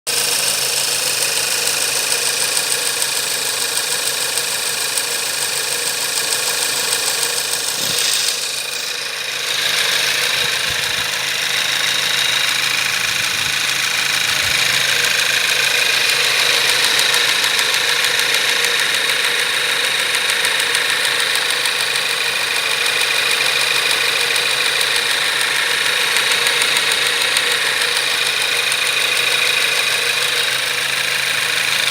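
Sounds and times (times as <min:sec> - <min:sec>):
engine running with metallic knock: 0:00.1 - 0:31.9.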